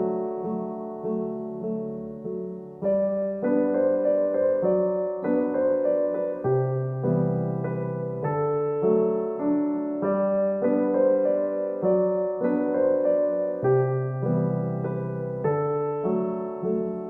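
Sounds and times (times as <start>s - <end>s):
gentle slow piano piece: 0.0s - 17.0s.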